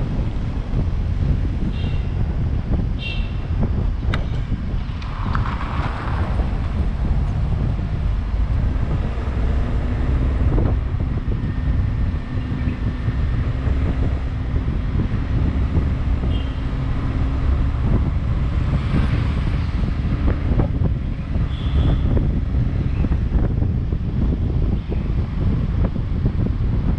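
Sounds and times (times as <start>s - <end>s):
vehicle driving on road: 0.0s - 26.9s
wind rumble on microphone: 0.0s - 26.9s.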